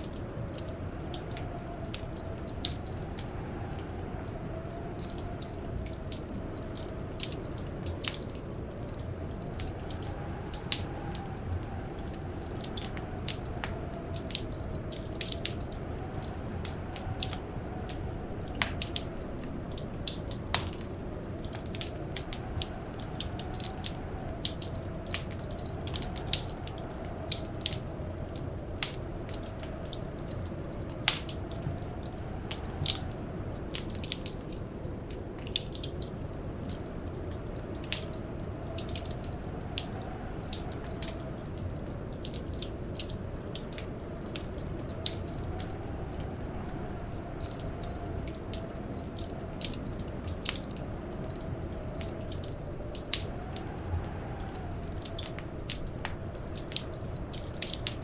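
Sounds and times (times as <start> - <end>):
faint wind howling: 0.0 - 58.0
wood fire crackling and popping: 0.0 - 58.0.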